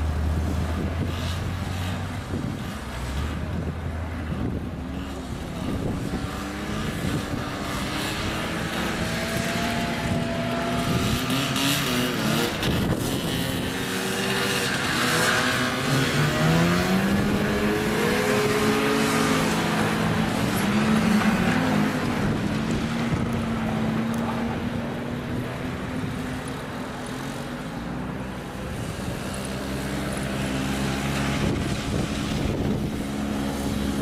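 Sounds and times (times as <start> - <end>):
snowmobiles passing by: 0.0 - 34.0.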